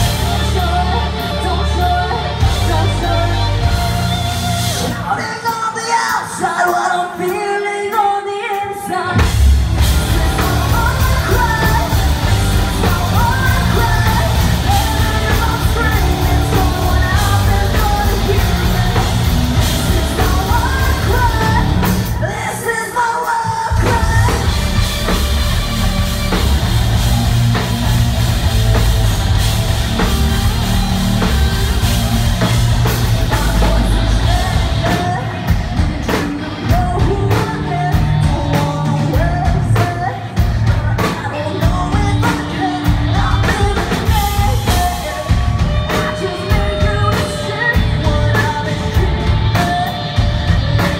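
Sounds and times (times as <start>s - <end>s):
woman singing: 0.0s - 25.3s, 29.9s - 50.9s
rock band playing: 0.0s - 50.9s.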